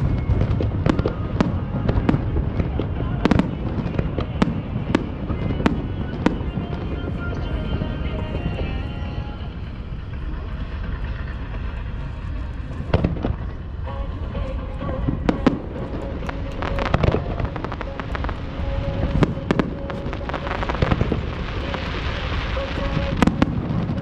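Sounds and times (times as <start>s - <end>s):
fireworks bangs: 0.0s - 24.0s
fireworks crackling: 0.0s - 24.0s
low rumble: 0.0s - 24.0s.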